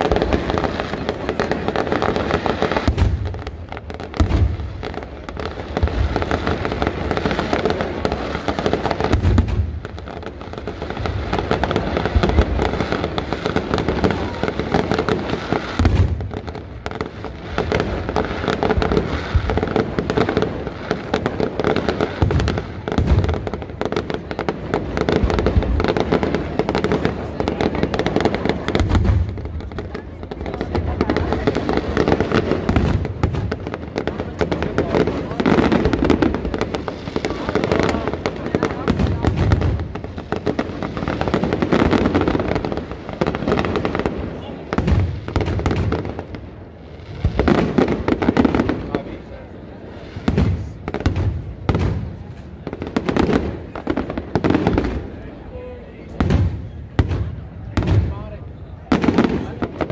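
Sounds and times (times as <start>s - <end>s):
fireworks bursting and crackling: 0.0s - 59.9s
heavy fireworks booms: 0.0s - 59.9s.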